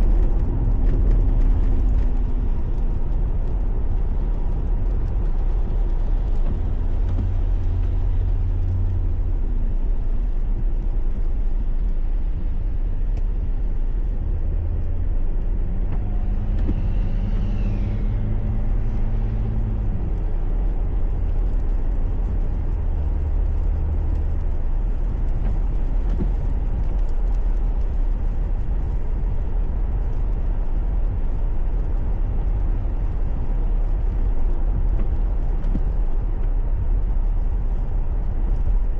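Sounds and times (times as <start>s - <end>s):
car engine hum: 0.0s - 38.9s
road rumble: 0.0s - 38.9s.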